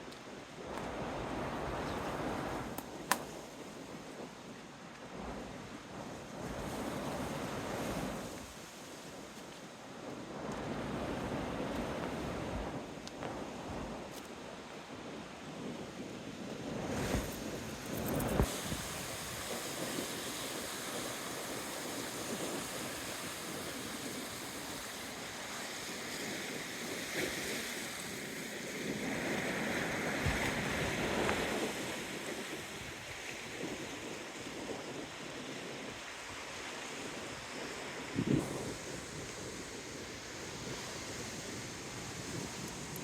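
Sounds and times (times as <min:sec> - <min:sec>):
waves washing on shore: 0:00.0 - 0:43.0
wind on microphone: 0:00.2 - 0:43.0.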